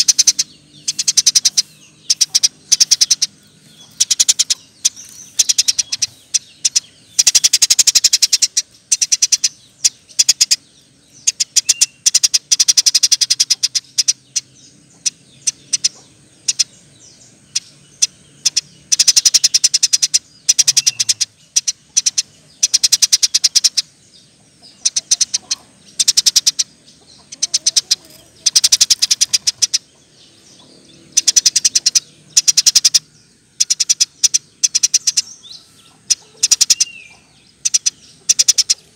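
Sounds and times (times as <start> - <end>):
sparrow chattering: 0.0 - 38.9.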